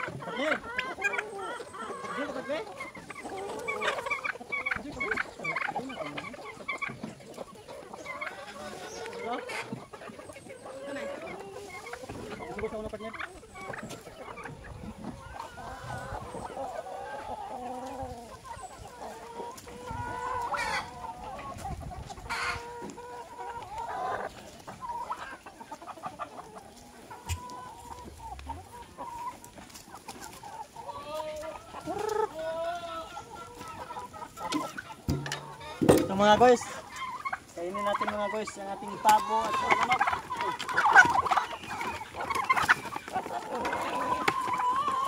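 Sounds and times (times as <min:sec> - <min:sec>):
chickens clucking: 0:00.0 - 0:45.0.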